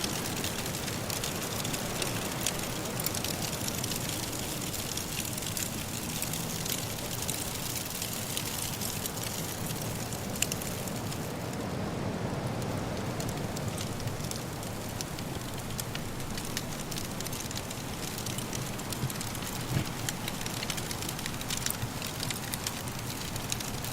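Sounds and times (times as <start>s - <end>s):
wind-blown snow hissing: 0.0s - 23.9s
wood fire crackling: 0.0s - 23.9s.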